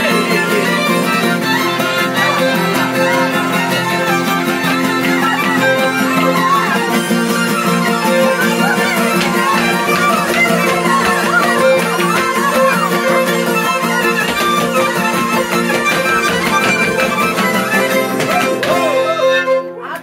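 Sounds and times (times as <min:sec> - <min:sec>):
steady rhythmic pulse: 0:00.0 - 0:18.9
fiddles playing dance tune: 0:00.0 - 0:20.0.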